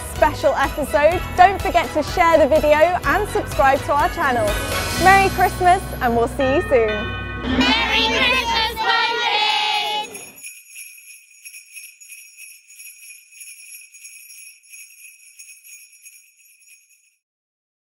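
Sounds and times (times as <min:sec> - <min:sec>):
jingle bells shaking: 0:00.0 - 0:05.8, 0:07.9 - 0:17.2.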